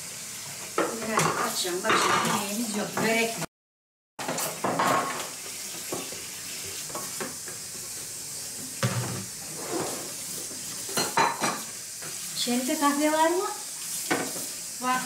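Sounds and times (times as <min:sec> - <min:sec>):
food sizzling in a pan: 0:00.0 - 0:03.5, 0:04.2 - 0:15.0.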